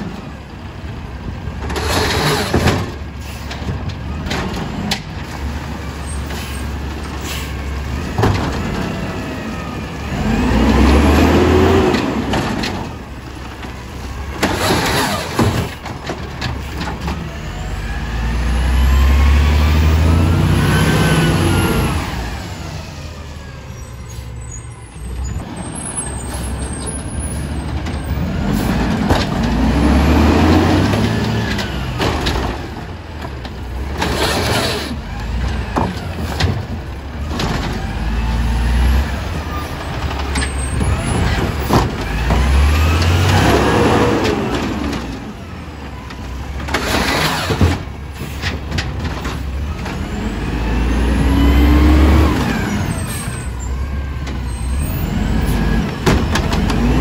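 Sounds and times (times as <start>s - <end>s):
garbage truck engine revving: 4.0s - 23.8s, 25.3s - 57.0s.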